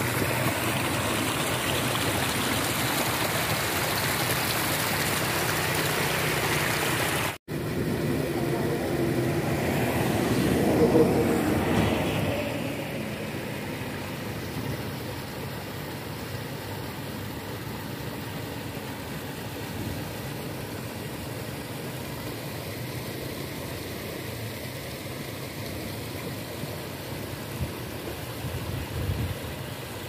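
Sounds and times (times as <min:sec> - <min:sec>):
pump engine droning: 0:00.0 - 0:30.0.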